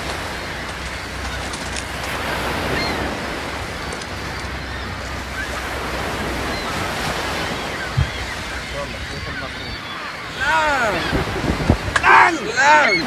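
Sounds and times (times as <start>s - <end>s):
water splashing against boat: 0.0s - 13.0s
wind rumbling on microphone: 0.0s - 13.0s.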